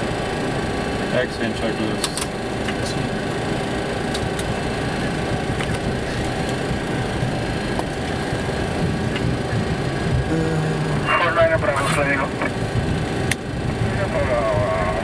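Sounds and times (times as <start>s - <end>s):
cockpit air and fans: 0.0s - 15.0s
jet engines idling: 0.0s - 15.0s.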